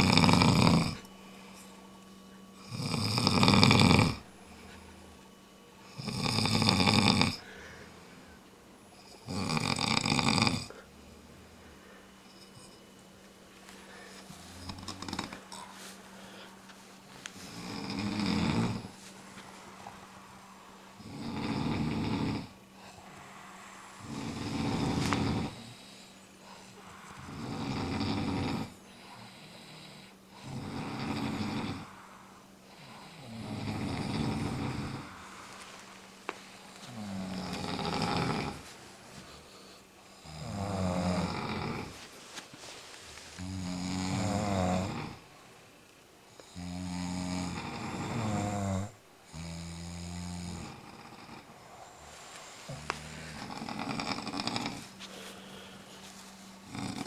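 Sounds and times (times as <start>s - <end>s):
person snoring loudly: 0.0s - 1.1s, 2.6s - 5.0s, 5.8s - 8.3s, 9.0s - 11.2s, 13.9s - 16.5s, 17.4s - 42.1s, 43.3s - 45.4s, 46.5s - 57.0s.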